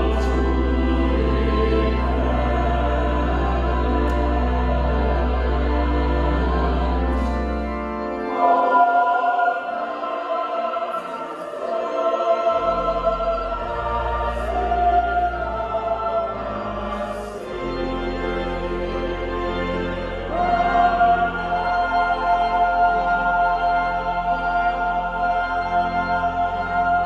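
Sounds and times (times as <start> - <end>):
mixed choir singing: 0.0 - 27.0.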